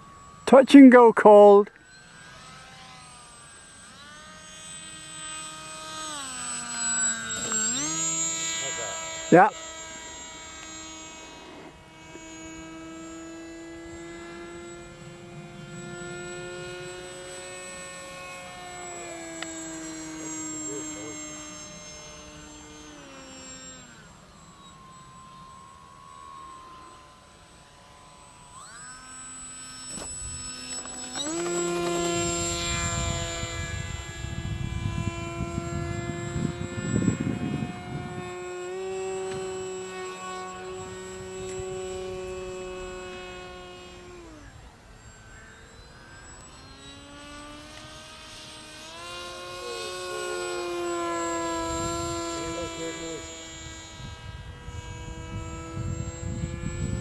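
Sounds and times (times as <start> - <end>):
model aircraft motor whine: 0.0 - 57.0.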